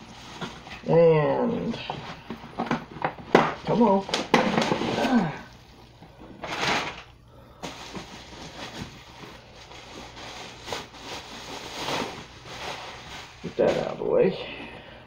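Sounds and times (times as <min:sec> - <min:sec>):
plastic packaging crinkling: 0:01.6 - 0:14.1.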